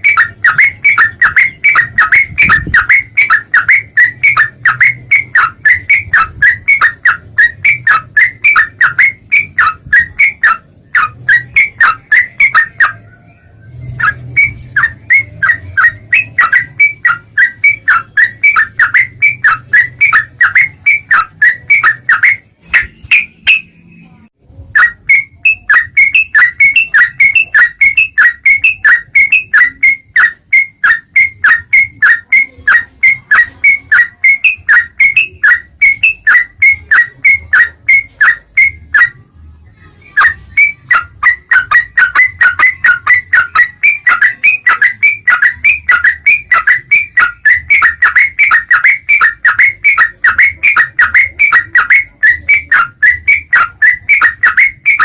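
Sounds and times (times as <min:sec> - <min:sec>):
bird chirping fast: 0:00.0 - 0:55.0.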